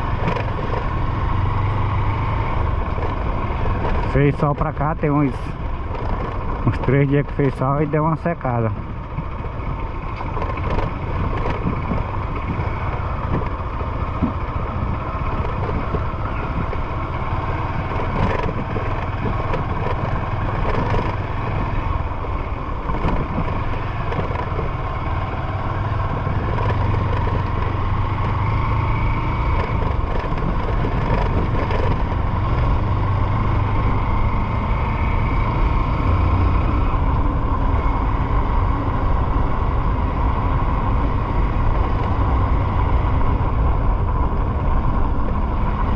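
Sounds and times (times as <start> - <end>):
motorcycle engine running: 0.0 - 45.9
road noise: 0.0 - 45.9.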